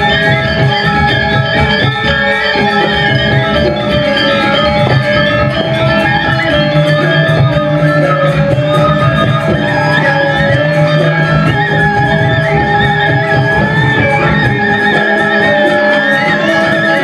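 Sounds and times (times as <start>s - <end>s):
metallophone notes ringing: 0.0s - 17.0s.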